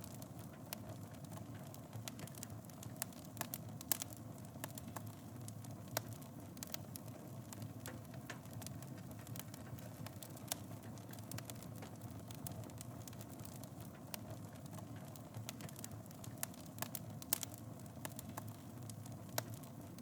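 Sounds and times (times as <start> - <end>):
fire crackling and snapping: 0.0 - 20.0.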